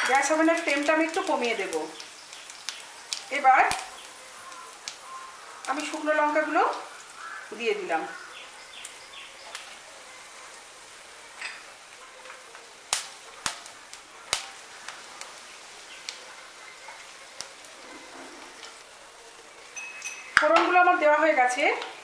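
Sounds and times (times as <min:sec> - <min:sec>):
oil sizzling: 0:00.0 - 0:22.0
spices popping: 0:00.0 - 0:22.0.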